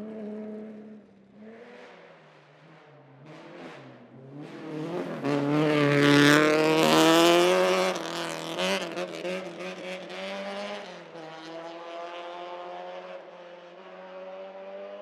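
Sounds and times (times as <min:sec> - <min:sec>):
rally car engine pulling away: 0:00.0 - 0:15.0.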